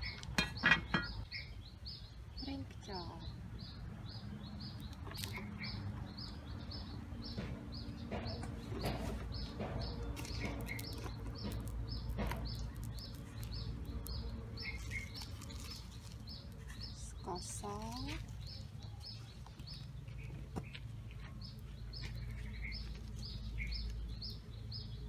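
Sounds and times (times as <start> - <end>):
low background rumble: 0.0 - 25.0.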